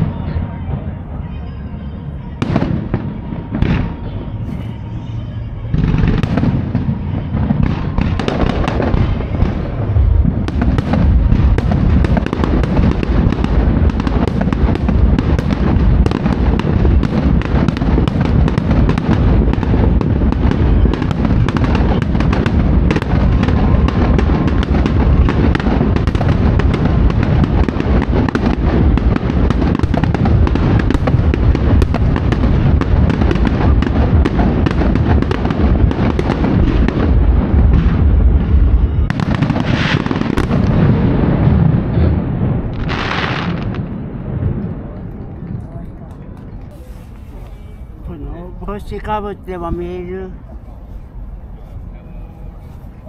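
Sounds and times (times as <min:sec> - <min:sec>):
fireworks bursting and crackling: 0:00.0 - 0:53.0.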